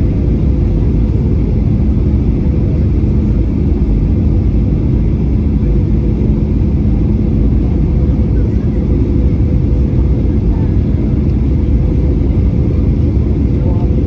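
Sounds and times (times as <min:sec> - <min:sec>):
jet engine and airflow rumble: 0:00.0 - 0:14.0.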